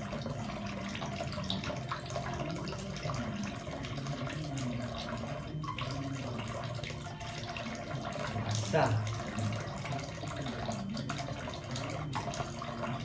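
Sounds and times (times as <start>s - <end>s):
water splashing into metal sink: 0.0s - 13.0s.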